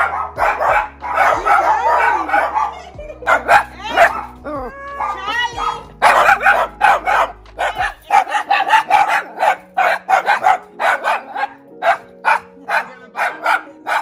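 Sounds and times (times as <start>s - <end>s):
small dogs barking rapidly: 0.0s - 14.0s.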